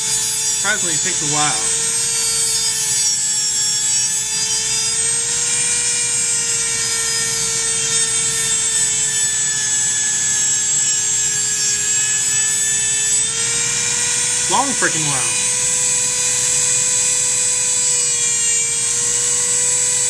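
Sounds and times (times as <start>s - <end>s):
rotary tool grinding pencil: 0.0s - 20.0s.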